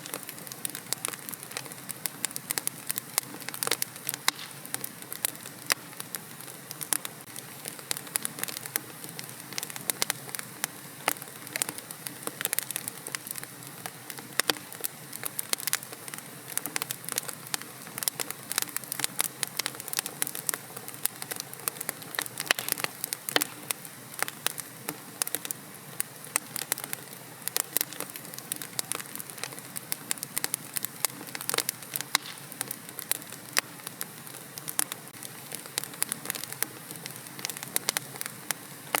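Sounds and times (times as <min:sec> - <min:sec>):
fire hiss: 0:00.0 - 0:39.0
wood fire crackling: 0:00.0 - 0:39.0.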